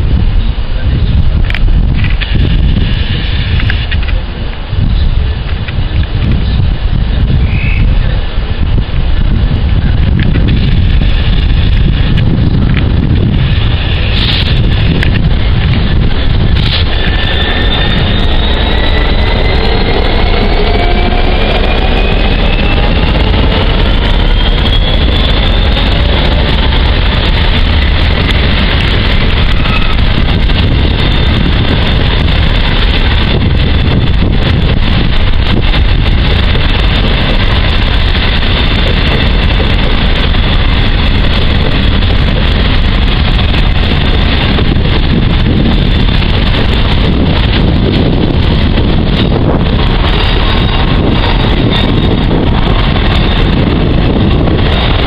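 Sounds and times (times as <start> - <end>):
diesel locomotive whine: 0.0 - 55.0
train wagons rumbling on rails: 0.0 - 55.0
wind buffeting microphone: 0.0 - 55.0.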